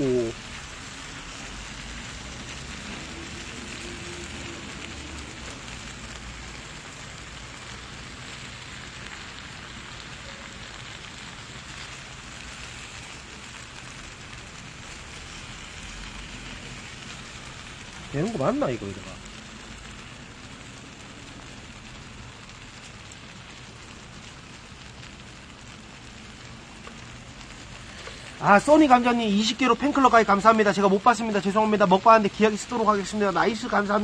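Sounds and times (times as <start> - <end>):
meat and cabbage sizzling on griddle: 0.0 - 34.0.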